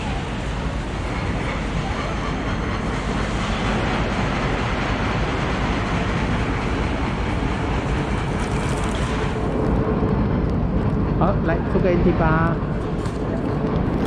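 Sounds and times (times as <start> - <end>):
busy city street rumble: 0.0 - 14.0.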